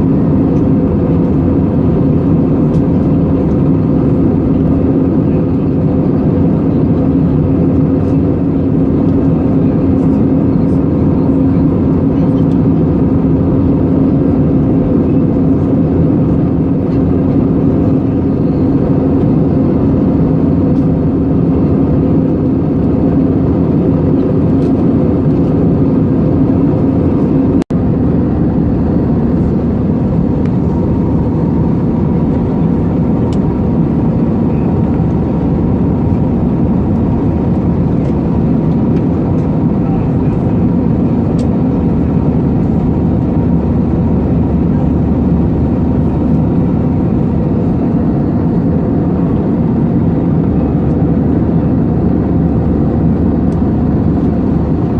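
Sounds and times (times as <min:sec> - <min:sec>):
airliner cabin drone: 0:00.0 - 0:54.9.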